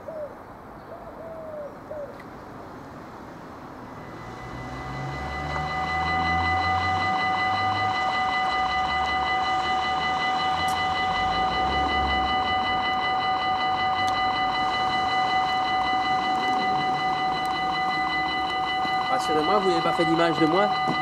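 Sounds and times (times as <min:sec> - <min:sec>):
level crossing warning bell: 0:03.5 - 0:21.0.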